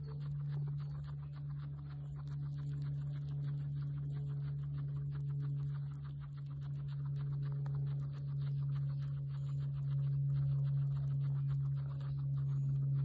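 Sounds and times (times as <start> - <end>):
guinea pig chewing grass: 0.0 - 13.0
steady low hum: 0.0 - 13.0.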